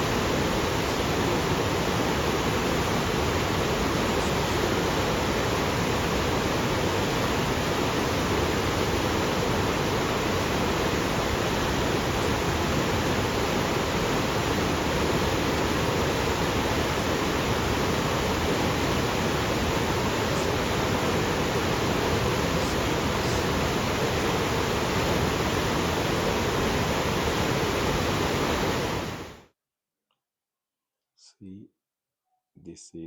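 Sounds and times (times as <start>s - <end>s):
waterfall roaring: 0.0s - 29.4s.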